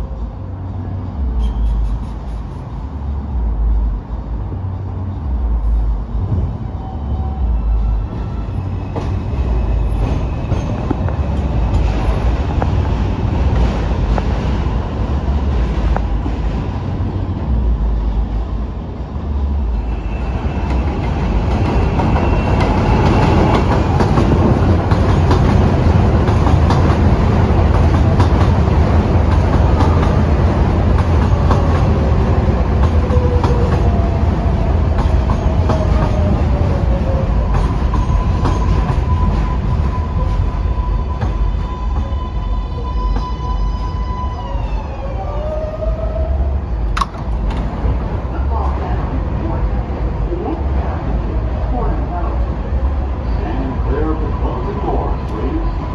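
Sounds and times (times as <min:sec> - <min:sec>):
subway wheels clattering on rails: 0:00.0 - 0:55.9.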